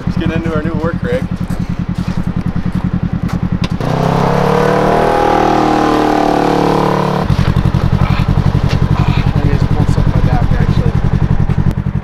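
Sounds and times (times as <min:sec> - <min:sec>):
engine whining then chugging: 0:00.0 - 0:12.0.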